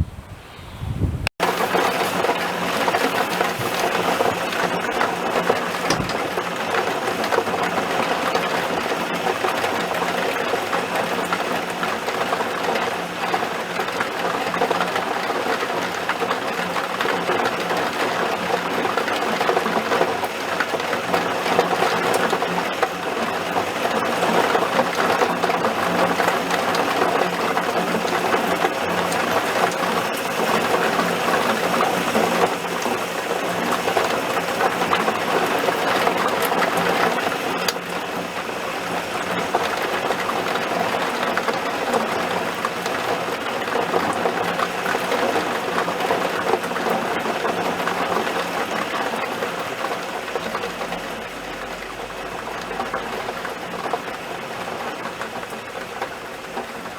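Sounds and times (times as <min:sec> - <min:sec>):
heavy rain pattering: 0:01.4 - 0:56.9.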